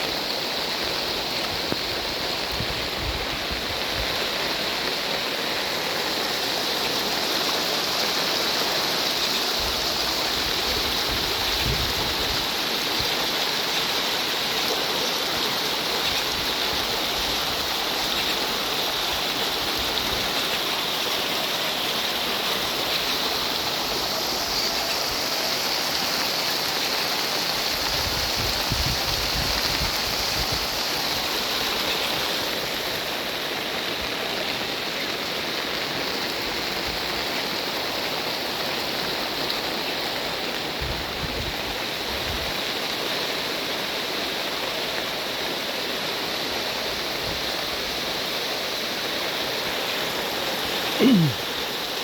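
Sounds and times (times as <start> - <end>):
heavy rainwater rushing: 0.0 - 52.0.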